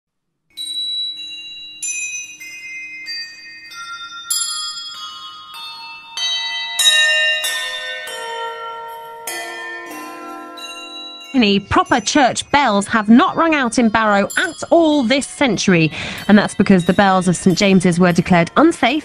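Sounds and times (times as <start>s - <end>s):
bells descending in pitch: 0.5s - 19.0s.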